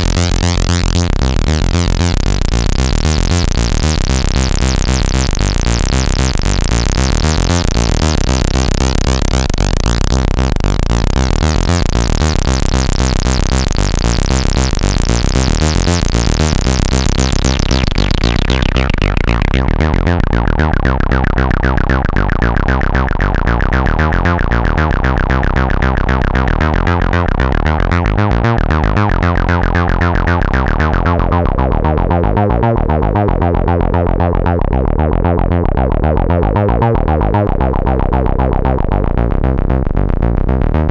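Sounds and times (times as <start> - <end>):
buzzy synthesizer drone: 0.0 - 40.9.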